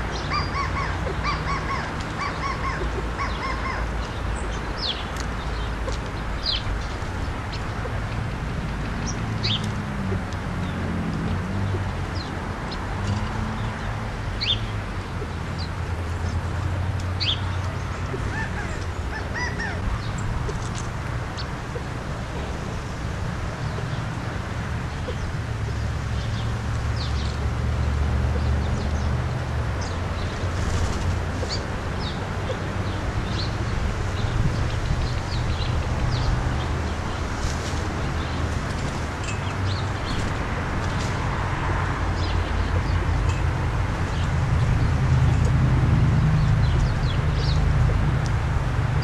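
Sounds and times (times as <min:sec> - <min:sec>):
birds chipping: 0:00.0 - 0:48.4.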